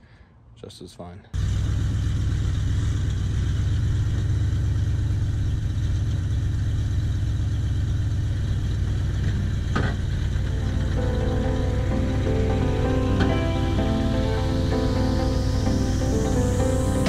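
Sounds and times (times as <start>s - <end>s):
large engine humming: 1.4s - 17.0s.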